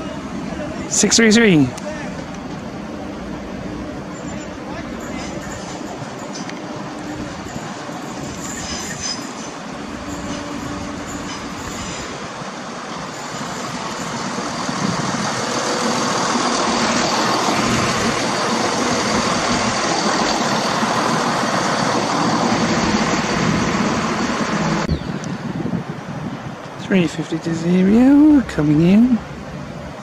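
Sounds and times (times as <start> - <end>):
diesel train engines humming: 0.0 - 30.0
train wheel and rail noise: 0.0 - 30.0.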